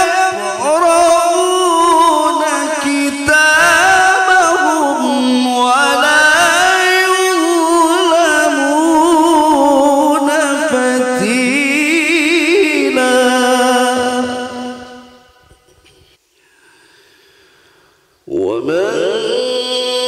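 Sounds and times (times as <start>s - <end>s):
man reciting melodiously: 0.0s - 15.3s, 18.2s - 20.0s.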